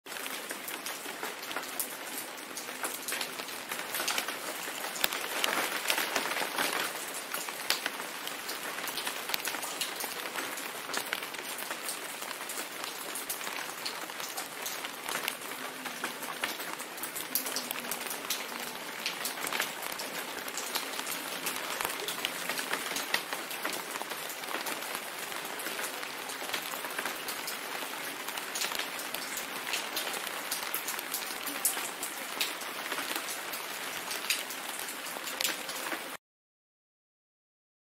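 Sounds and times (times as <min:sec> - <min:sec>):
raindrops clicking: 0:00.1 - 0:36.1
steady rain hiss: 0:00.1 - 0:36.2.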